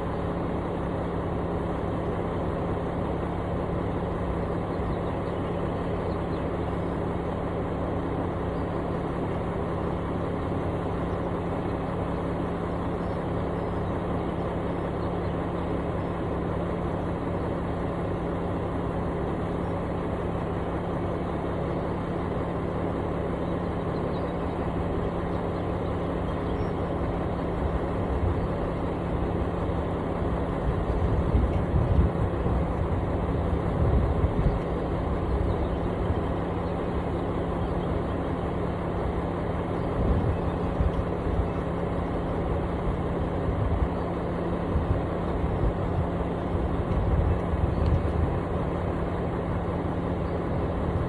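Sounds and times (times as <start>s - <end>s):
heavy machinery engine running: 0.0s - 51.0s.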